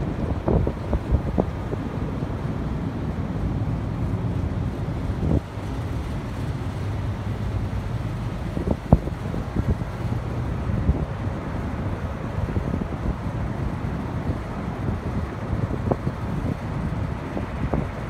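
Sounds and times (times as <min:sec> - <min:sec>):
low city hum: 0:00.0 - 0:18.0
wind rumbling on microphone: 0:00.0 - 0:18.0.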